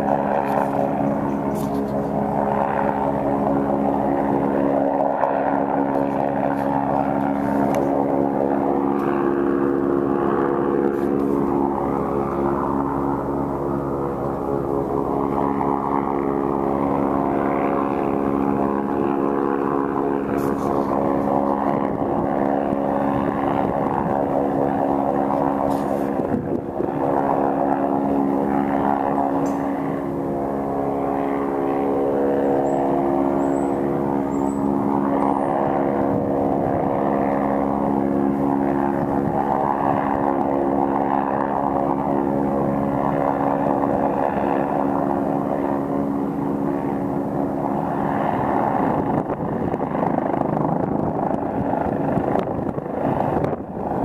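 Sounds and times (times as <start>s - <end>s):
helicopter flying overhead: 0.0s - 54.0s.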